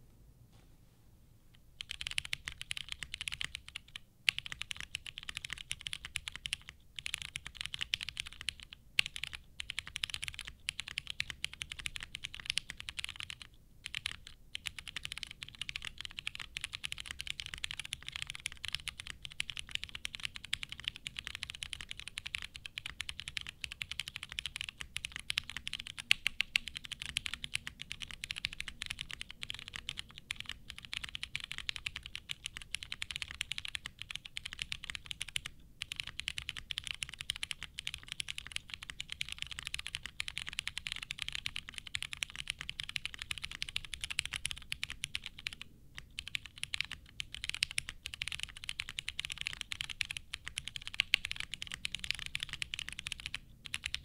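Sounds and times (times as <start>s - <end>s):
mechanical keyboard typing: 1.8s - 54.0s.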